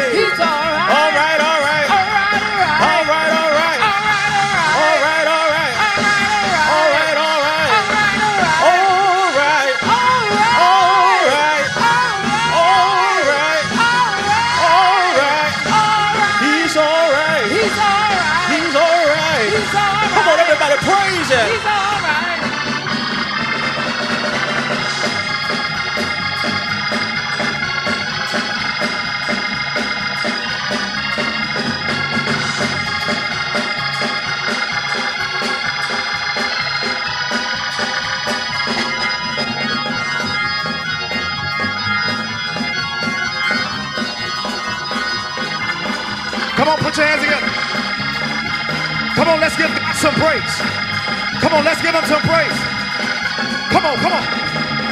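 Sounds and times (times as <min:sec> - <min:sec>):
organ chords: 0:00.0 - 0:54.9
steady beat: 0:00.0 - 0:54.9.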